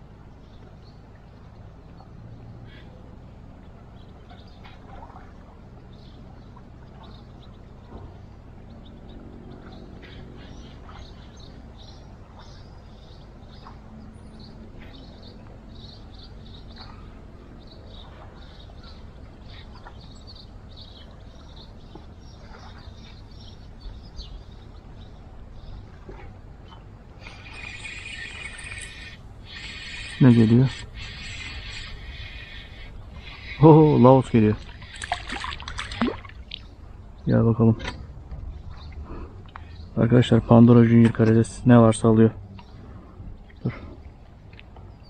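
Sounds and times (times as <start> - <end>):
birds chirping: 0.0 - 45.0
low background rumble: 0.0 - 45.0.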